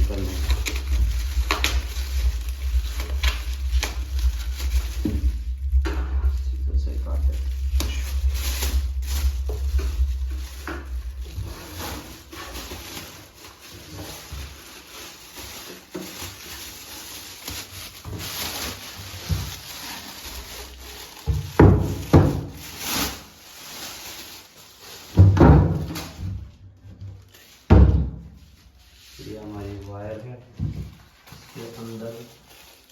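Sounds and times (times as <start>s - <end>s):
packaging and cables rustling: 0.0s - 26.5s, 28.4s - 32.9s.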